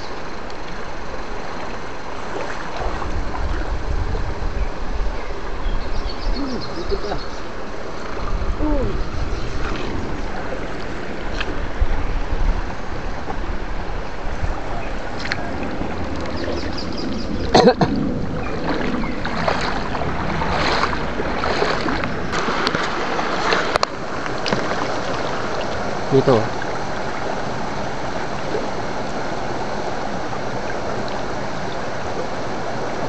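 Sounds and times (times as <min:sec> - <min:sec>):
water sloshing and splashing: 0:00.0 - 0:04.5, 0:06.7 - 0:32.3
wind rumbling on microphone: 0:00.0 - 0:33.0.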